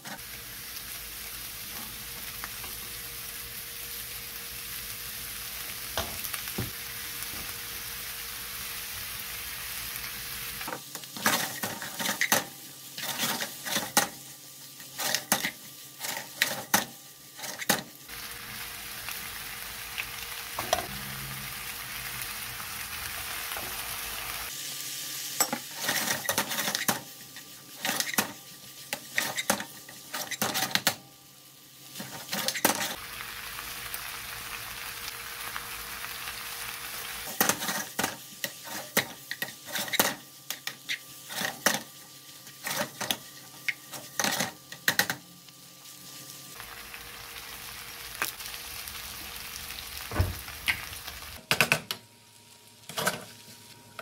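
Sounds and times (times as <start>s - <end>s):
food sizzling in frying pan: 0.0s - 51.4s.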